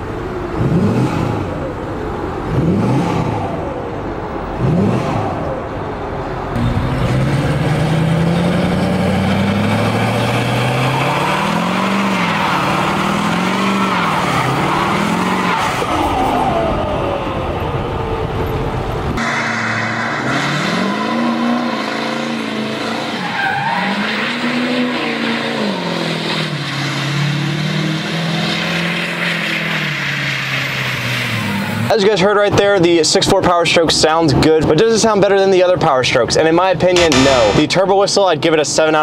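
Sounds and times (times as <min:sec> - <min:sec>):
diesel truck engine revving: 0:00.0 - 0:33.0
tires screeching: 0:00.0 - 0:39.0.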